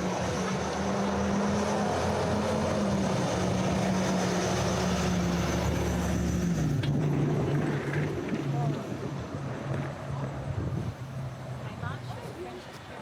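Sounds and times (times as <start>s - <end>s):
large vehicle engine droning: 0.0s - 12.4s.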